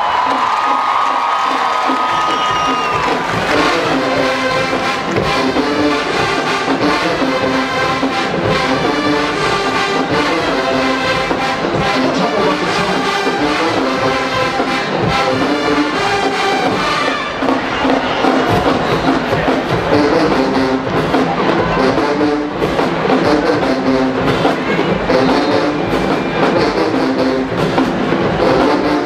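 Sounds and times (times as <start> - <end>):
marching band playing: 0.0 - 29.0.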